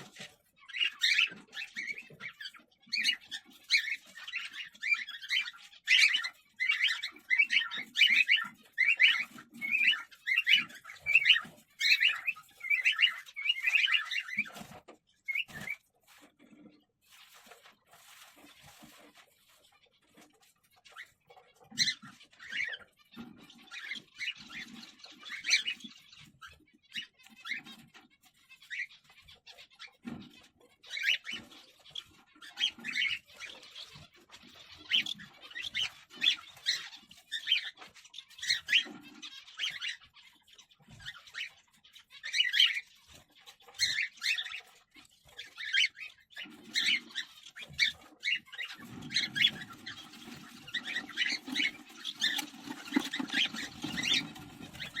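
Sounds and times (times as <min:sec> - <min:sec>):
cockatiels chirping and squawking: 0:00.0 - 0:55.0.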